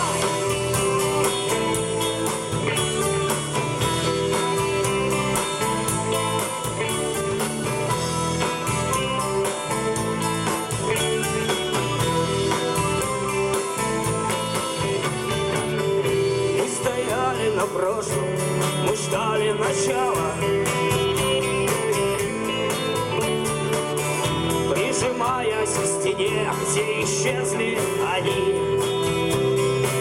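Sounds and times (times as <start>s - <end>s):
electric guitar: 0.0s - 30.0s
live rock band playing: 0.0s - 30.0s
steady drum beat: 0.0s - 30.0s.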